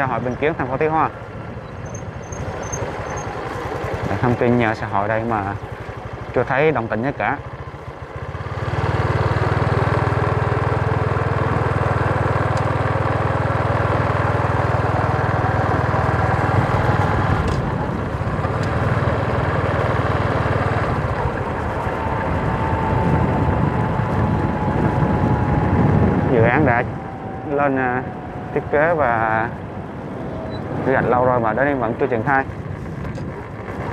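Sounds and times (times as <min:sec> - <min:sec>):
vehicle engine and wind rumble: 0:00.0 - 0:33.9.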